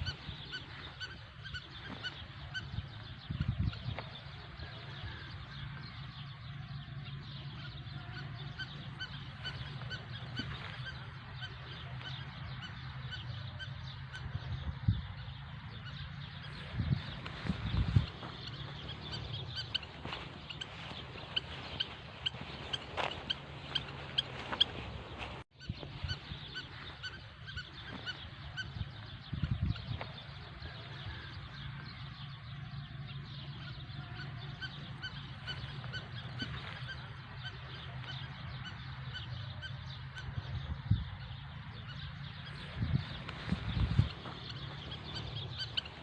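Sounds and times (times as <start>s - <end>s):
birds calling in short notes: 0.0s - 46.0s
steady low hum: 0.0s - 46.0s.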